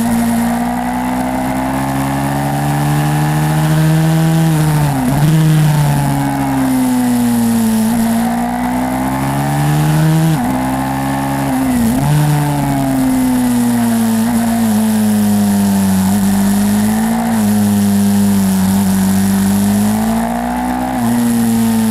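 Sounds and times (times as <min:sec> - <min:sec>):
pit bike engine running under load: 0:00.0 - 0:21.9.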